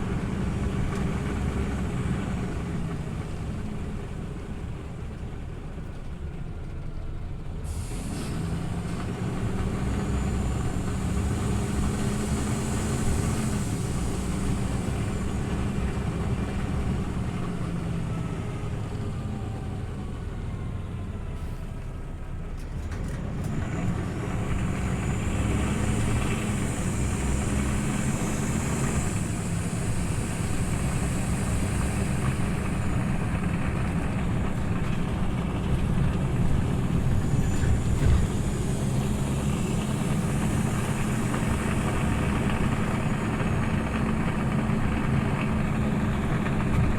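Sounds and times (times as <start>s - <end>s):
bus engine pulling under power: 0.0s - 46.9s.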